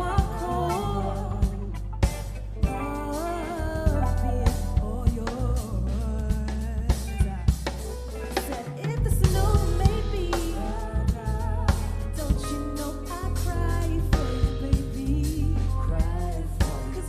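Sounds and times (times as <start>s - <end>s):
drum kit beat: 0.0s - 17.0s
live soul band playing: 0.0s - 17.0s
person singing: 0.0s - 17.0s.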